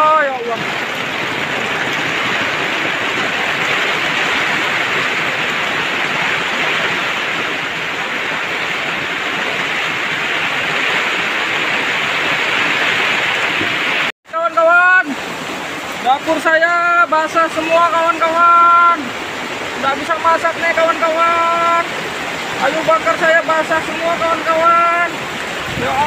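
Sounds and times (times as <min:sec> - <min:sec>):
heavy rain on tarpaulin roof: 0:00.0 - 0:26.0
strong wind: 0:00.0 - 0:26.0.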